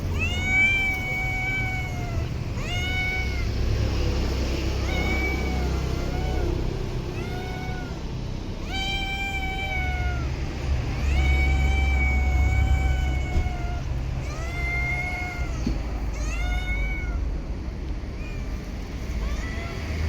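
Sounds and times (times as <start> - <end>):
cat meowing: 0.0 - 17.4, 18.2 - 20.0
steady low rumble: 0.0 - 20.0.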